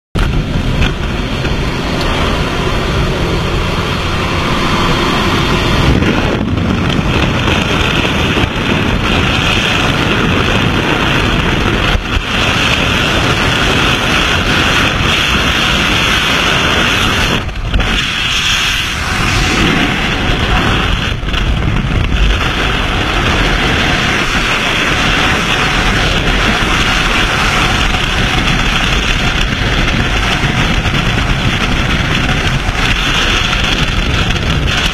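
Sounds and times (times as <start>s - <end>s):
wind rushing over microphone: 0.2s - 34.9s.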